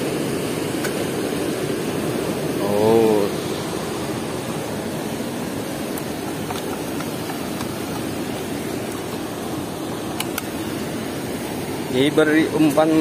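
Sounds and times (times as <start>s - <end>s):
water rushing through sluice gate: 0.0s - 13.0s.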